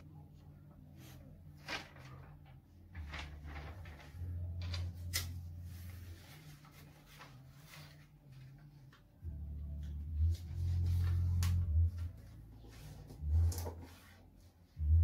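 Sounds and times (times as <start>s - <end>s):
low rumble: 0.0s - 7.0s, 8.2s - 13.9s
paper rustling and creasing: 1.0s - 9.1s, 9.8s - 14.5s.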